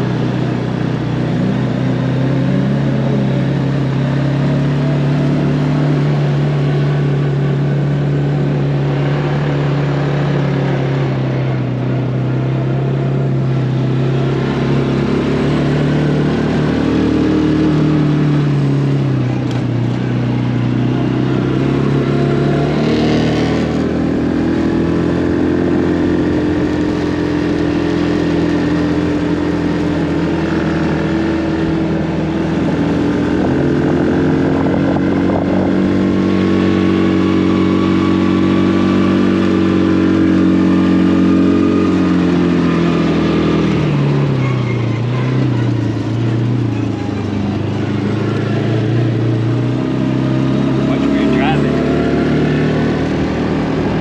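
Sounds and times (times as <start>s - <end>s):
utility vehicle engine running: 0.0s - 54.0s.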